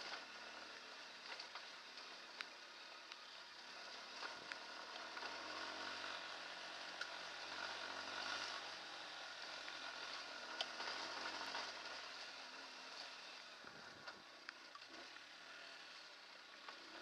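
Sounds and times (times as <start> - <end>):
motorcycle engine running slowly: 0.0 - 17.0.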